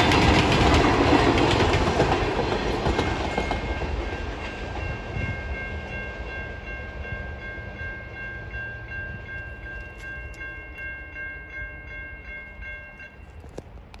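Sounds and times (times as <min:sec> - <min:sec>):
railroad crossing bell ringing: 0:00.0 - 0:13.7.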